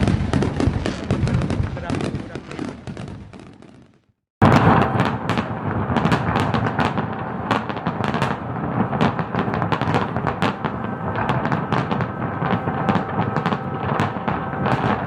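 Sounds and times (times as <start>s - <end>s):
firecrackers cracking and banging: 0.0s - 15.0s.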